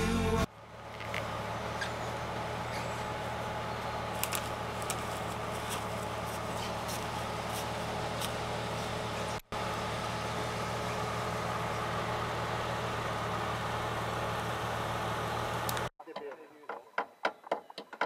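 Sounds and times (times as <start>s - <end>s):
vehicle engine running at low revs: 0.0s - 15.9s.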